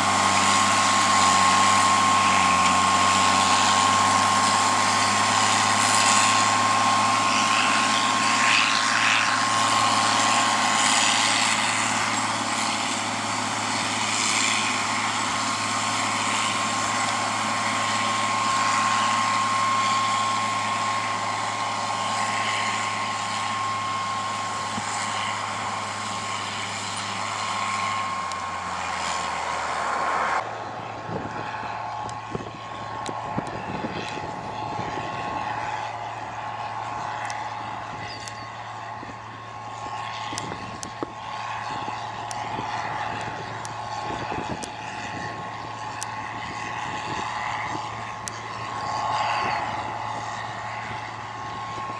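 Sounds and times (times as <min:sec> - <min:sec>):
high whine: 0:00.0 - 0:51.9
tractor diesel engine drone: 0:00.0 - 0:51.9.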